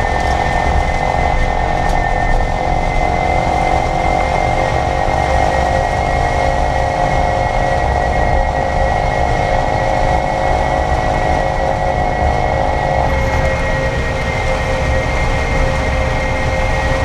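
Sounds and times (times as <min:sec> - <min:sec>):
electric drivetrain whine: 0:00.0 - 0:17.0
low road rumble: 0:00.0 - 0:17.0.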